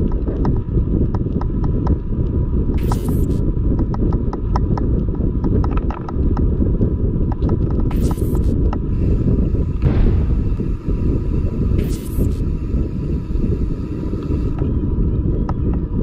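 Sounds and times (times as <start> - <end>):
bike ticks and rattles: 0.0 - 16.0
bike tyres rumbling on pavement: 0.0 - 16.0
wind buffeting microphone: 0.0 - 16.0.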